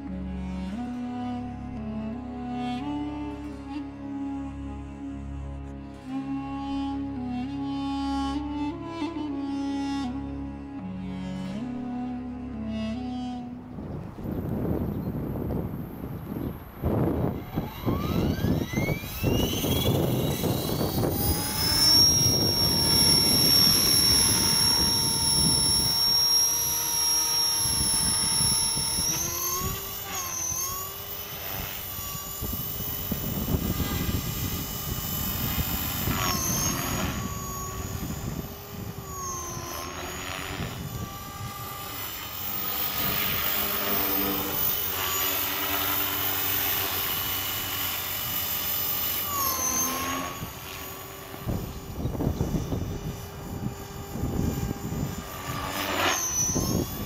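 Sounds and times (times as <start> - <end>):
model helicopter engine whine: 0.0 - 57.0.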